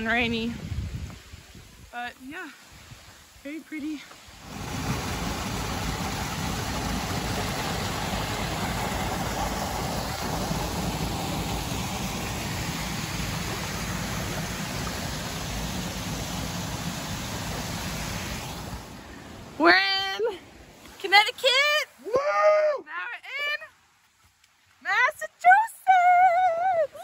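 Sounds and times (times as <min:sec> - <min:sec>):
stream rushing over rocks: 0:00.0 - 0:22.3.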